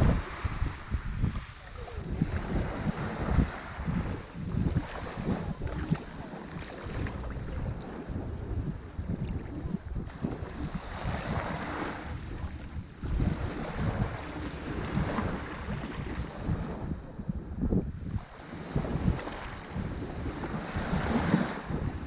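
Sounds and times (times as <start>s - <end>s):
ocean waves breaking: 0.0s - 22.0s
wind buffeting microphone: 0.0s - 22.0s.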